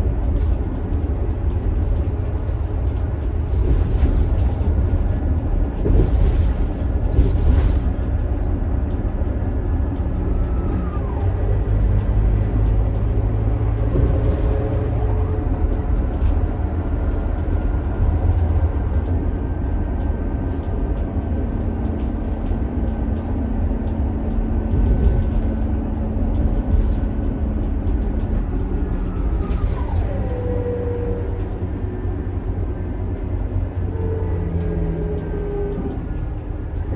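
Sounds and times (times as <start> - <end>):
bus diesel engine drone: 0.0 - 36.9.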